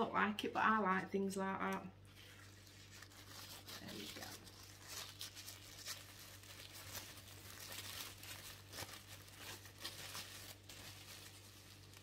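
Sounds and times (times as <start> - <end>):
tissue paper rustling: 2.1 - 12.0.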